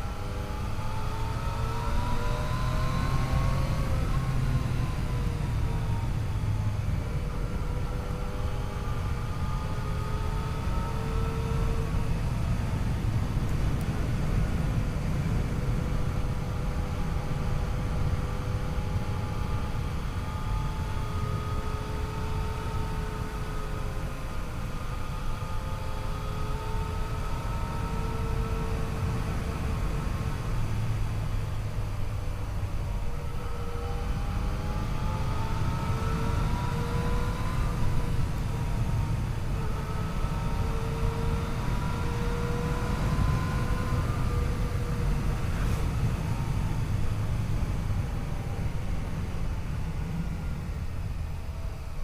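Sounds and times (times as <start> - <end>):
wind and road noise: 0.0 - 52.0.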